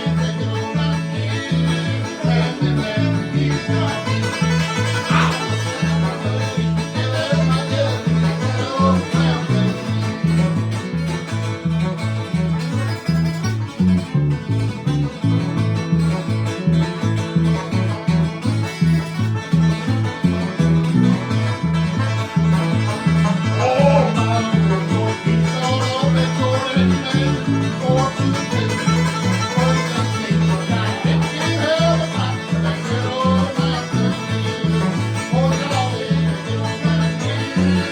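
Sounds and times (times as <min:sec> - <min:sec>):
acoustic guitar: 0:00.0 - 0:37.9
banjo: 0:00.0 - 0:37.9
low bass line: 0:00.0 - 0:37.9.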